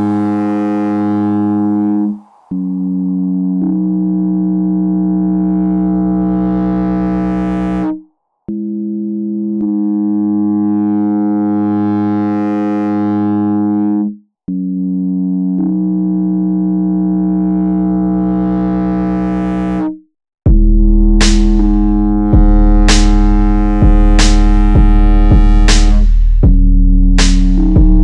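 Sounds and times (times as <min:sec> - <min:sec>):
low synthesizer tones: 0:00.0 - 0:28.0.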